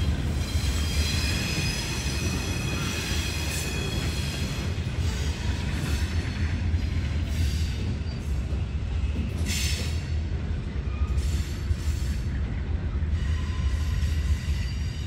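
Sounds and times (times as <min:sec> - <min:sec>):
diesel train rumbling: 0:00.0 - 0:15.0
wheels hissing on rail: 0:00.0 - 0:15.0.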